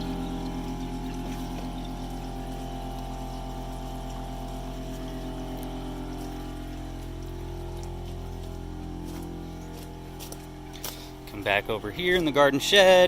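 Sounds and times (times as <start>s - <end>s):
air compressor humming: 0.0s - 13.0s
water moving: 0.0s - 13.0s.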